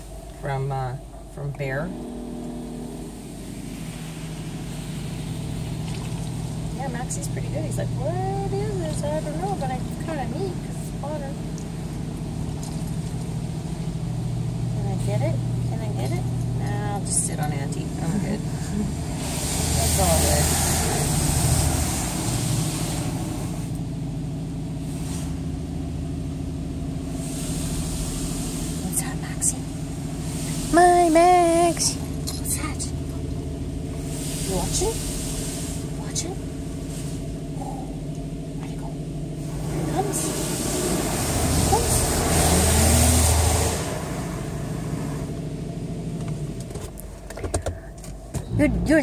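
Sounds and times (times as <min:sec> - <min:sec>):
car engine idling hum: 0:00.0 - 0:49.0
water spray hissing on car: 0:02.6 - 0:37.6, 0:39.4 - 0:45.5.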